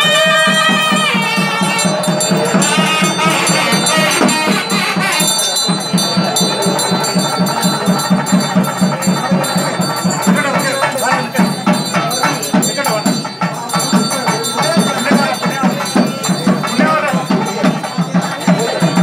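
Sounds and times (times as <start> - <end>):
bells ringing: 0.0 - 19.0
fast drum beat: 0.0 - 19.0.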